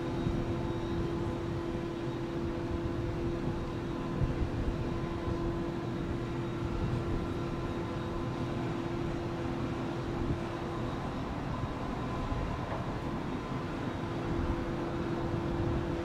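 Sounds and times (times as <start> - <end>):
distant city and rail traffic: 0.0 - 16.0.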